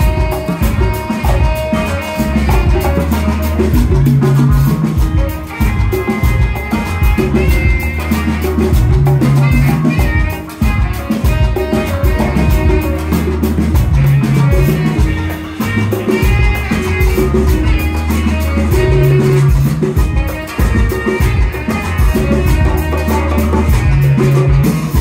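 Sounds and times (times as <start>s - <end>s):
congas: 0.0s - 25.0s
electric bass: 0.0s - 25.0s
electric guitar: 0.0s - 25.0s
keyboard: 0.0s - 25.0s.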